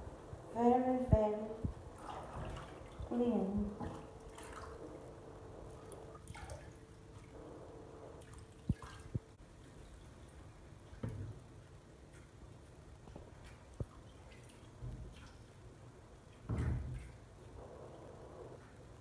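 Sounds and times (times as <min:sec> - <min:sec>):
water splashing and dripping: 0:01.6 - 0:17.5.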